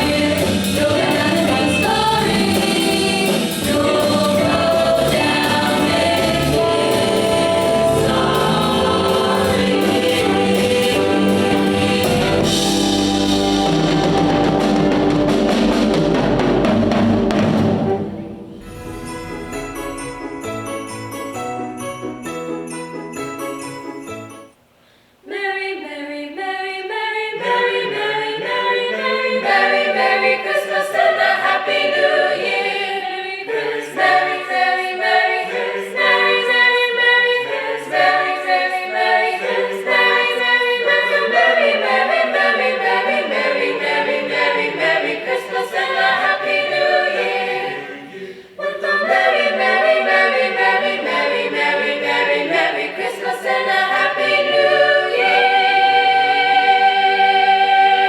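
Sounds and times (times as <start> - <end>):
choir singing a cappella: 0.0 - 15.3, 17.7 - 20.8, 25.2 - 58.0.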